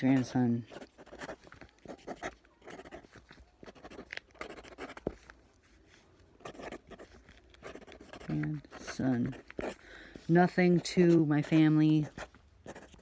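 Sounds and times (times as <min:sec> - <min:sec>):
pen scratching on paper: 0:00.0 - 0:05.3, 0:06.4 - 0:13.0.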